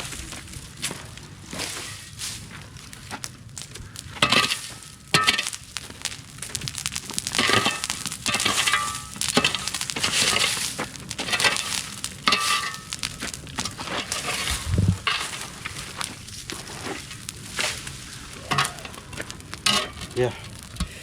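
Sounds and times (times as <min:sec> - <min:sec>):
bonfire crackling and popping: 0:00.0 - 0:21.0.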